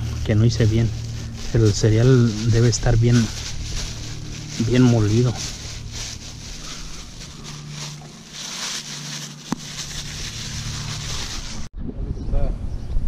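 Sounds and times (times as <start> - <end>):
boat motor humming: 0.0 - 11.7.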